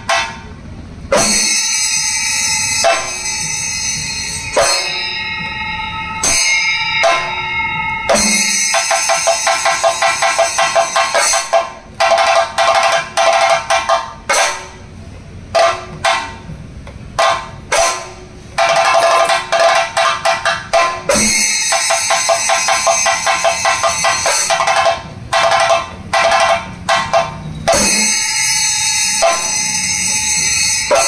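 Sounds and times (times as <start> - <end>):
hand cymbals clashing: 0.0 - 16.5, 17.2 - 31.0
drums beaten with sticks: 0.0 - 31.0.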